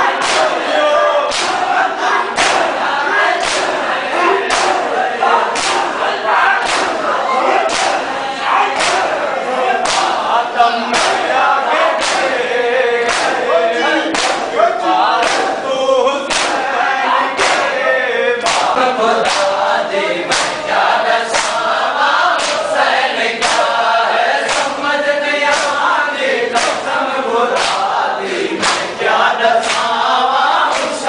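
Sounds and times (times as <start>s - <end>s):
crowd chest-beating slaps: 0.0s - 17.8s, 18.4s - 31.0s
men chanting: 0.0s - 31.0s.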